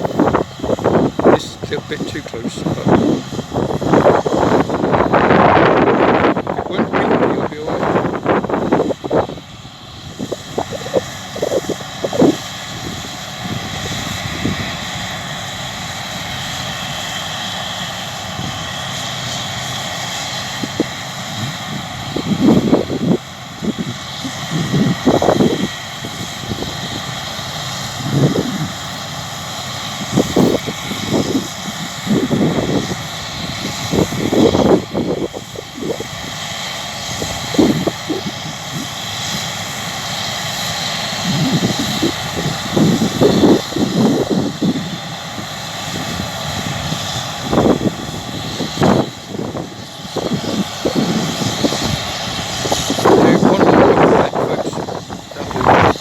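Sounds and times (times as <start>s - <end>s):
combine harvester droning and whining: 0.0s - 56.0s
wind buffeting microphone: 0.0s - 56.0s.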